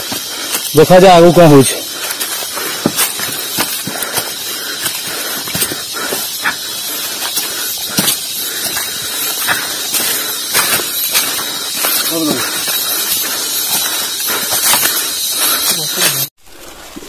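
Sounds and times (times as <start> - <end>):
footsteps crunching through dry leaves: 0.0 - 16.3.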